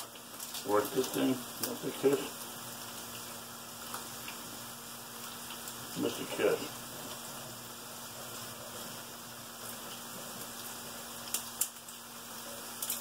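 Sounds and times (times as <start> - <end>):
fries sizzling in a skillet: 0.0 - 13.0.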